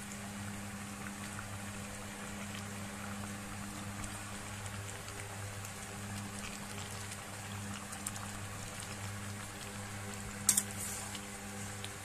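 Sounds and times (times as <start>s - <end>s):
curry simmering and bubbling: 0.0s - 12.0s
low hum: 0.0s - 12.0s.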